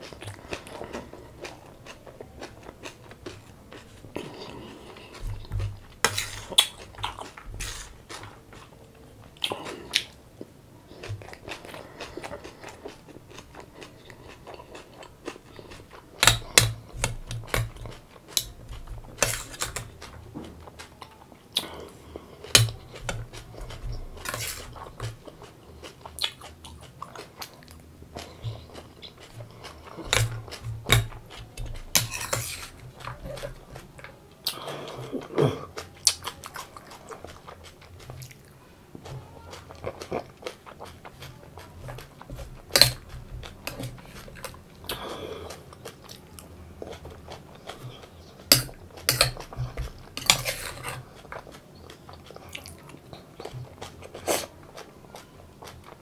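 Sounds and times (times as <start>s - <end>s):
crisp chewing and crunching: 0.0s - 56.0s.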